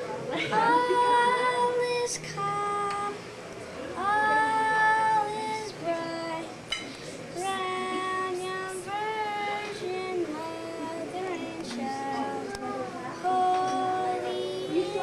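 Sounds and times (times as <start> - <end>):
women singing a carol: 0.4 - 3.2, 4.0 - 6.6, 7.3 - 15.0
child singing: 0.6 - 3.2, 4.0 - 6.5, 7.3 - 15.0.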